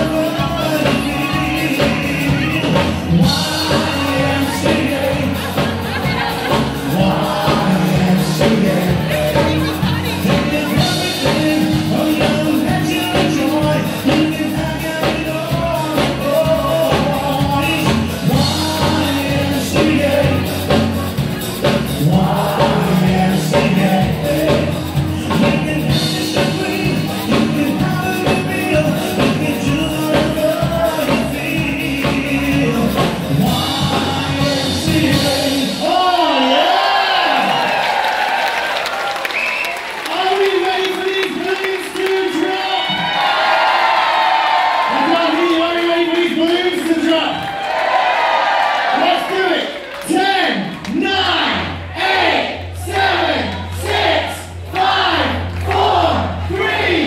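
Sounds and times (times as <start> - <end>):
live band with singer: 0.0 - 57.0.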